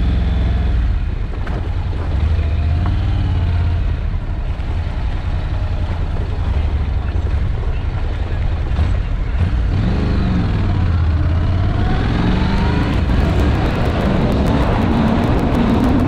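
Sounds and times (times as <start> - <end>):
motorcycle engine accelerating: 0.0 - 16.0
wind and road noise: 0.0 - 16.0.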